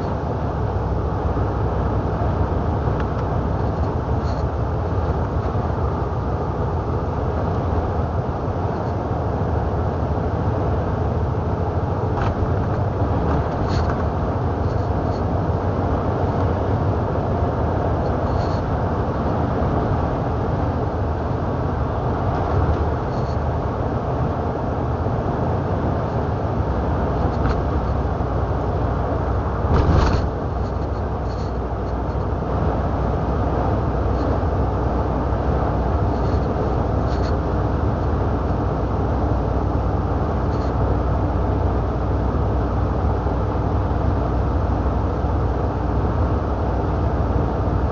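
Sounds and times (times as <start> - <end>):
truck engine and road noise: 0.0 - 47.9.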